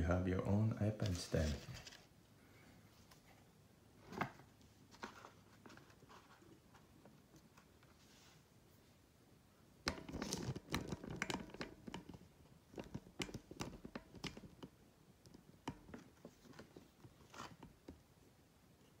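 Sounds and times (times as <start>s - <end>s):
tablet and cardboard handling noise: 0.4s - 2.2s, 2.9s - 8.5s, 9.8s - 18.1s.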